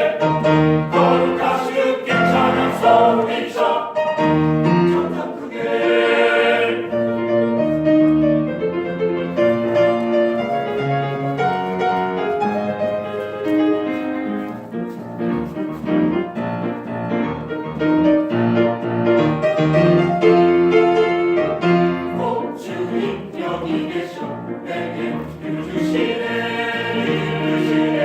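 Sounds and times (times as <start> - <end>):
piano playing held chords: 0.0 - 28.0.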